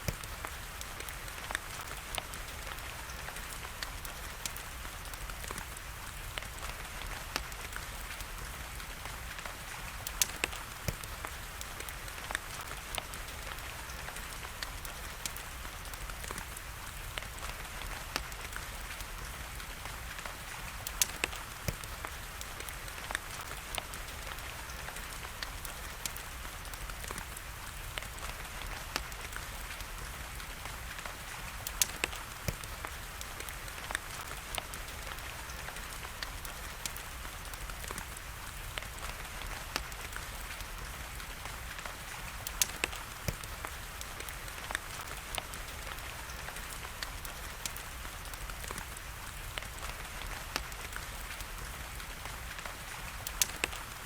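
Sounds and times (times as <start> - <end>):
rain hiss: 0.0 - 54.0
wood fire crackling: 0.0 - 54.0.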